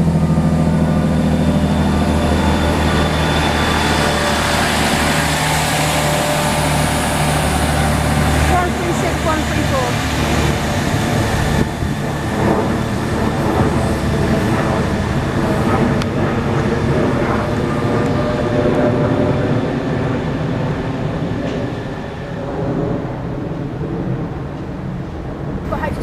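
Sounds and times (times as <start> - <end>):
held whining tones: 0.0 - 22.1
train wheels rumbling on track: 0.0 - 26.0.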